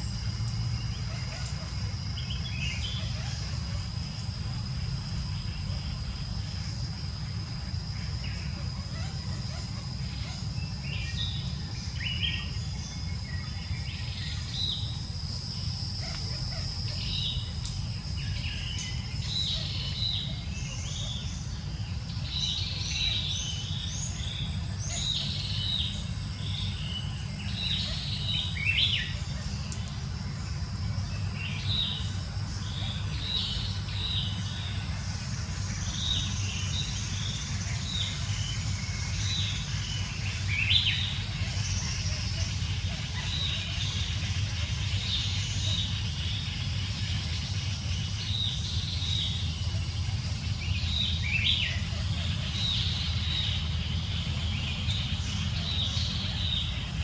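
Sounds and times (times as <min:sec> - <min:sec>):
birds chirping and calling: 0:00.0 - 0:57.0
high-pitched insect drone: 0:00.0 - 0:57.0.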